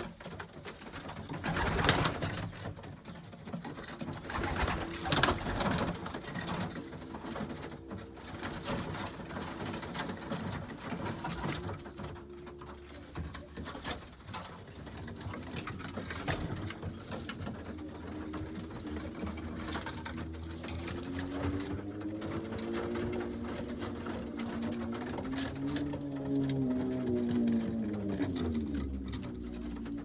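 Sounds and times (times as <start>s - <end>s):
pigeon cooing: 0.0s - 30.0s.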